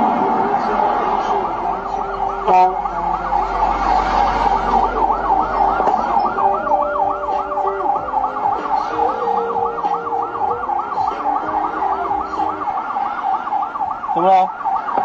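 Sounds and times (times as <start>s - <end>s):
police siren yelping: 0.0s - 15.0s.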